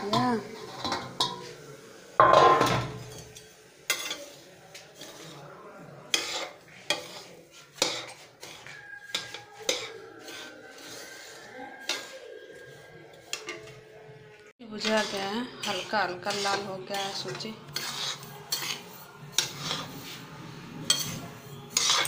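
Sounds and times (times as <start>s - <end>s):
metal spoon scraping pan: 0.0s - 1.6s, 2.2s - 13.9s, 14.6s - 22.0s.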